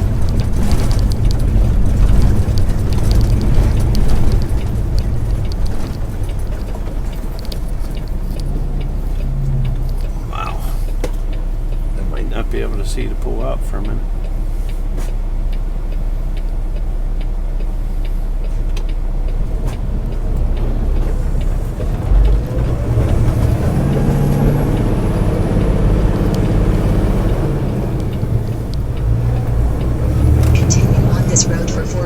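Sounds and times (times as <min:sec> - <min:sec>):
faint regular ticking: 0:00.0 - 0:32.0
truck diesel engine idling: 0:00.0 - 0:32.0.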